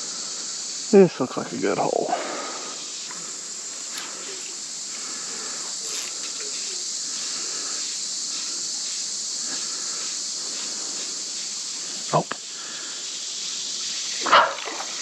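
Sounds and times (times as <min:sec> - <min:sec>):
insect chorus hissing: 0:00.0 - 0:15.0.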